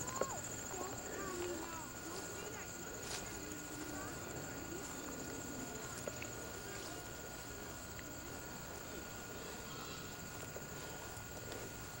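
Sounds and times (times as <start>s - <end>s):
faint voices: 0.0s - 12.0s
high-pitched insect trill: 0.0s - 12.0s.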